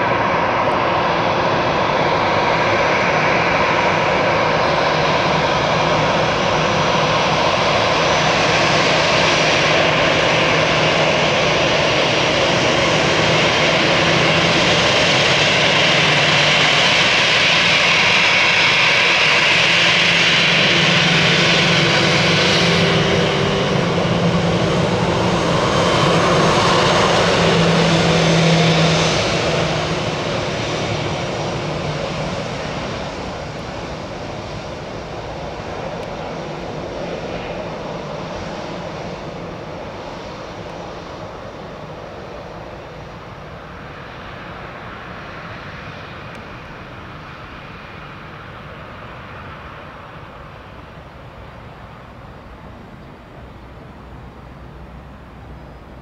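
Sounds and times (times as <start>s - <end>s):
jet engines whining at taxi power: 0.0s - 56.0s.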